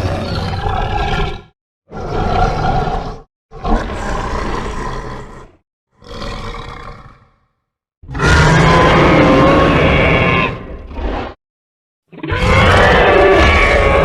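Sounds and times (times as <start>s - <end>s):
deep growling dinosaur roars: 0.0s - 11.4s, 12.2s - 14.0s.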